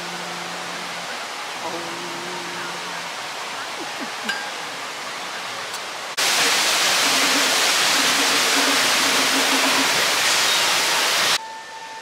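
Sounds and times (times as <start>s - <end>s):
falling water rushing: 0.0s - 11.4s.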